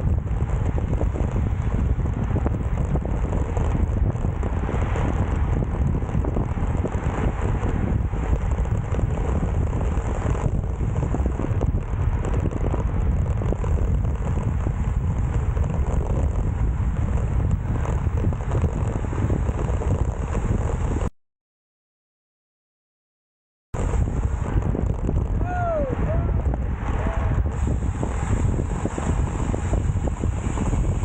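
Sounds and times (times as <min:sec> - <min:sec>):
road and tyre noise: 0:00.0 - 0:21.1, 0:23.8 - 0:31.0
wind rushing over microphone: 0:00.0 - 0:21.1, 0:23.8 - 0:31.0.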